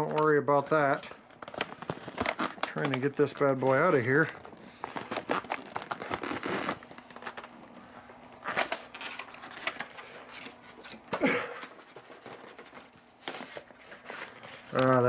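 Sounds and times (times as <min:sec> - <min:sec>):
cardboard and plastic packaging rustling: 0:00.0 - 0:15.0.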